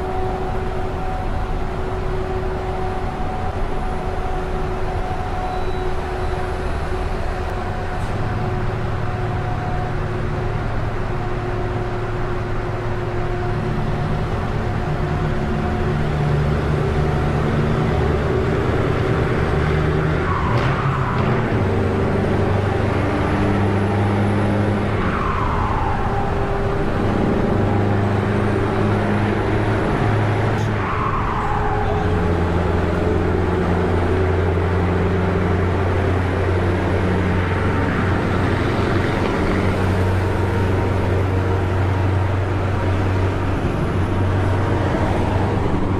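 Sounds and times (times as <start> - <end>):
diesel truck engine in tunnel: 0.0 - 45.9.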